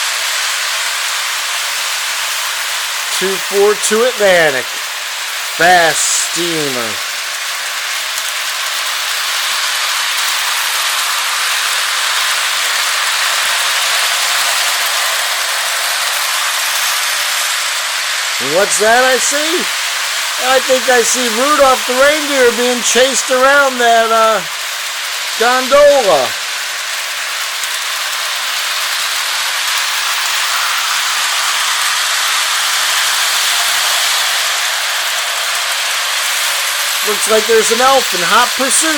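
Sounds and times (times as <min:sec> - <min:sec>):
toy train running on track: 0:00.0 - 0:38.9.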